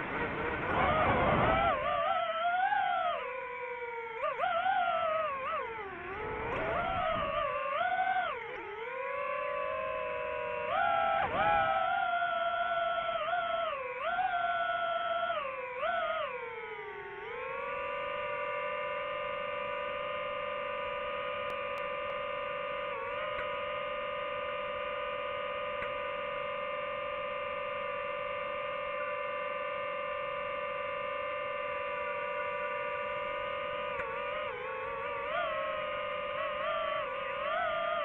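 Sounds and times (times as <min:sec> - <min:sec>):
drone propellers whining: 0:00.0 - 0:38.0.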